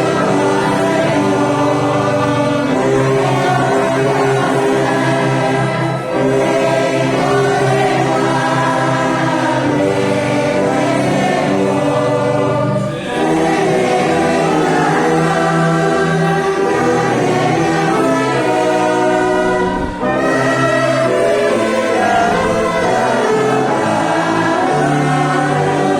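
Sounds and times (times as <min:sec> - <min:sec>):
congregation singing a hymn: 0:00.0 - 0:25.9
orchestral accompaniment: 0:00.0 - 0:25.9.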